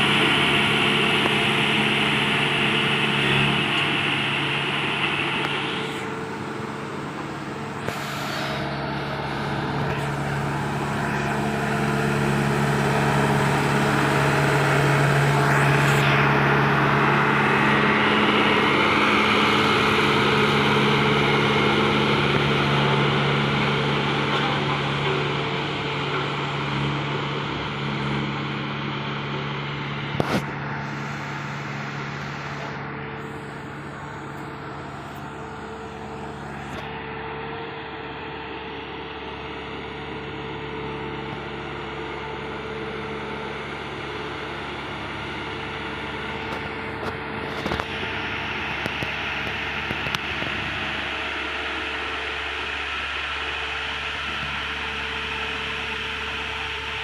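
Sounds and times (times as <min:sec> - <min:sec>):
road roller diesel engine running: 0:00.0 - 0:57.0.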